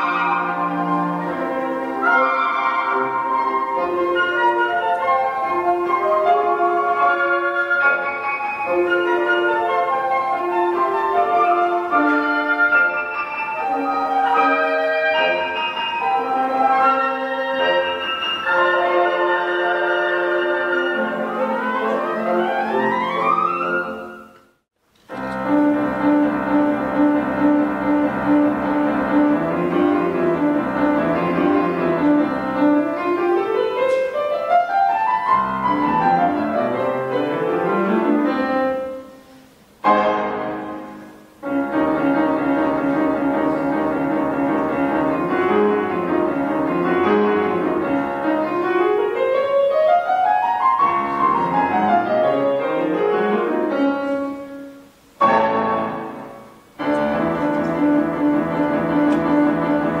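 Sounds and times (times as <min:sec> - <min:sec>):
woodwind quintet playing: 0:00.0 - 1:00.0.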